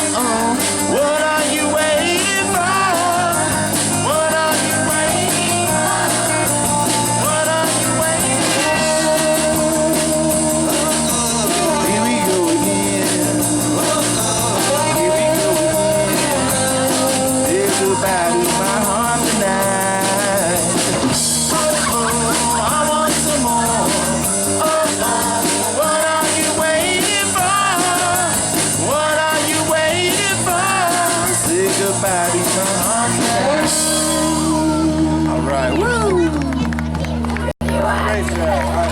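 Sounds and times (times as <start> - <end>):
pop-rock song with singer: 0.0 - 36.6.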